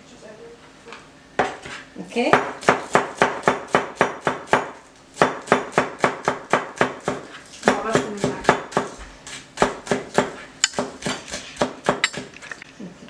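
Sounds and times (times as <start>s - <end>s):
knife chopping on cutting board: 1.4s - 12.3s.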